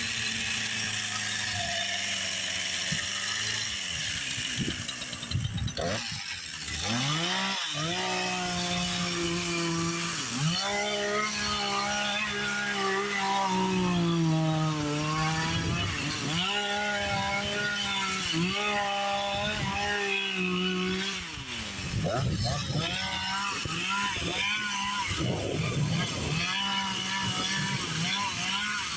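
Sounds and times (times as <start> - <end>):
chainsaw cutting wood: 0.0 - 28.9.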